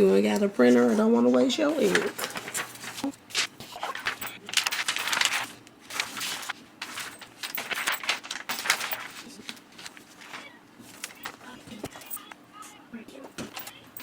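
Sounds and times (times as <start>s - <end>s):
laminated paper rustling: 0.6s - 12.3s.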